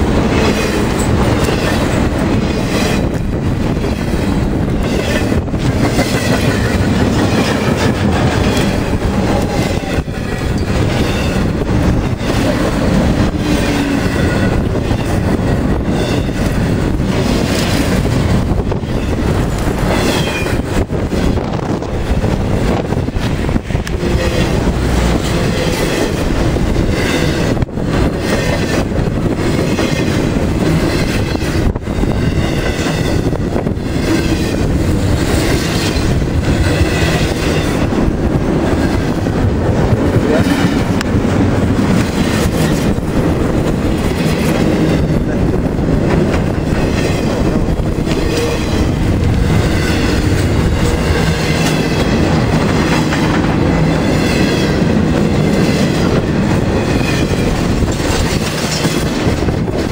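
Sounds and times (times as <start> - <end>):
freight train rumbling past: 0.0 - 59.9
wheels clicking over rail joints: 0.0 - 59.9.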